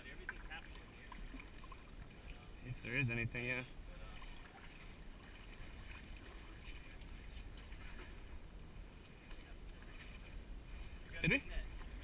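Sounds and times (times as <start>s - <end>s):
net splashing in shallow water: 0.0s - 2.8s, 3.9s - 12.0s.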